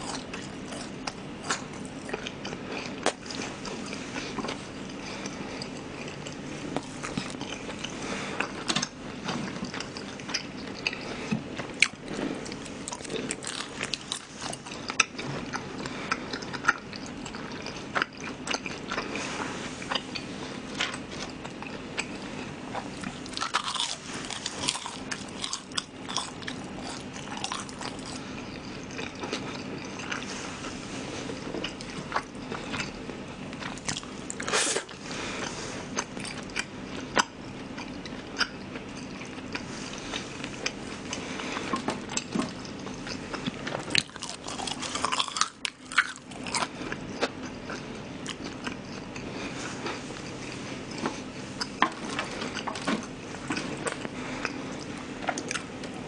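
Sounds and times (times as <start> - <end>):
wet crunchy chewing: 0.0 - 56.0.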